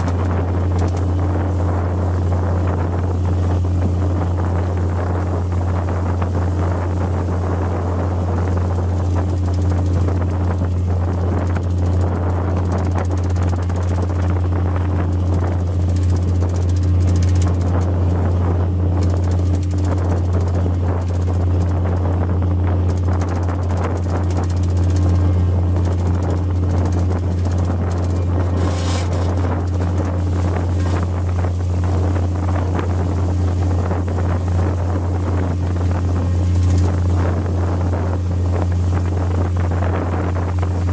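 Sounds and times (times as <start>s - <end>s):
boat diesel engine drone: 0.0s - 40.9s
wind on microphone: 0.0s - 40.9s.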